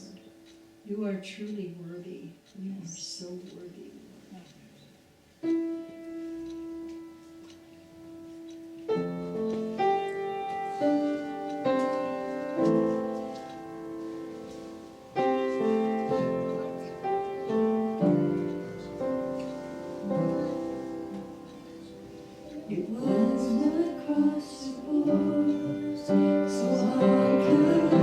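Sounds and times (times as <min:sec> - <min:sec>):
piano playing slow chords: 0:05.4 - 0:28.0.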